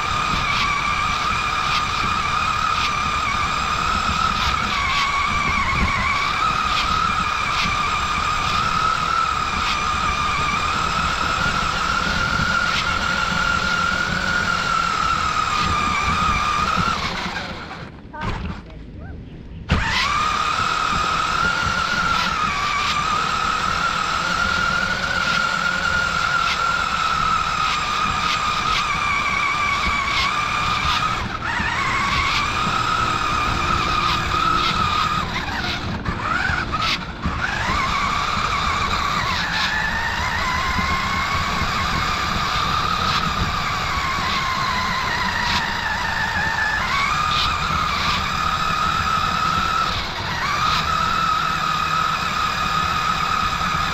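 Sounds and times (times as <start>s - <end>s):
toy truck motor whine: 0.0s - 18.6s, 19.7s - 53.9s.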